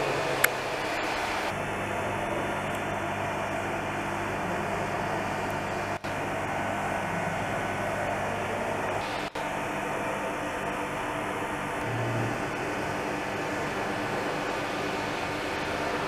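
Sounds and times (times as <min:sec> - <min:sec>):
machine hum with hiss: 0:00.0 - 0:16.0.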